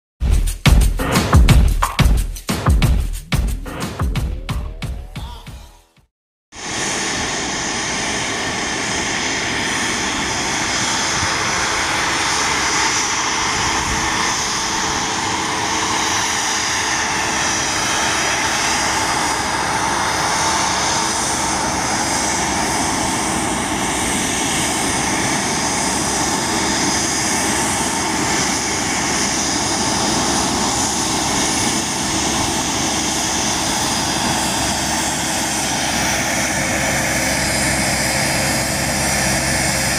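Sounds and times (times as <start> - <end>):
jet turbofan engines whining: 6.6 - 39.9.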